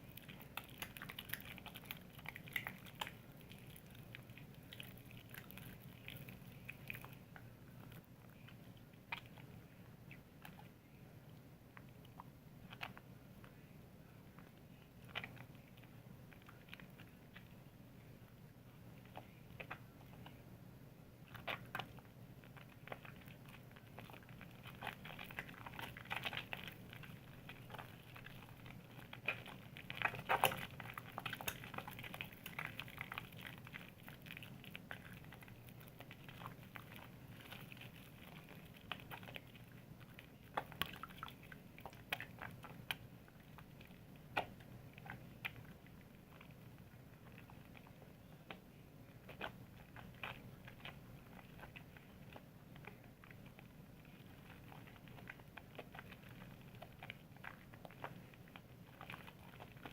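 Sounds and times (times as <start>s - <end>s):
soap lathering wet crackling: 0.0s - 10.8s, 14.3s - 17.8s, 21.2s - 59.9s
faint low hum: 0.0s - 59.9s.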